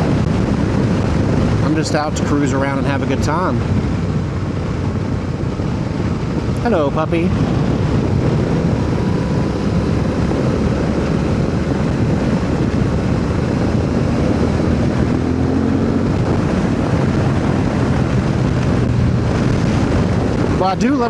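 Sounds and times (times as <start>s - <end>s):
motorcycle engine cruising: 0.0s - 21.0s
wind rushing over microphone: 0.0s - 21.0s.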